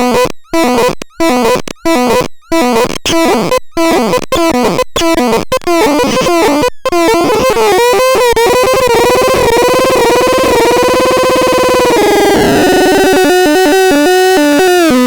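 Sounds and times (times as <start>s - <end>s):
buzzy electronic instrument notes: 0.0s - 15.0s.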